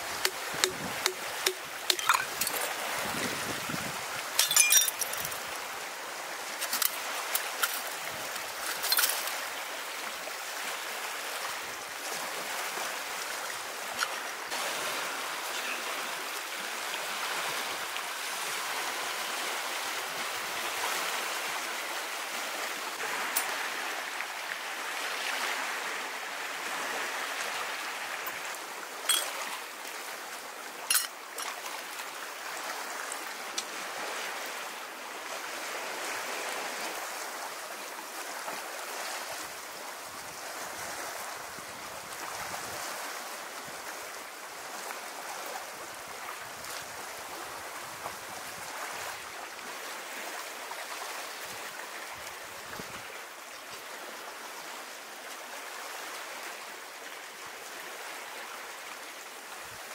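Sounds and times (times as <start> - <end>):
sea water washing on shore: 0.0 - 59.9.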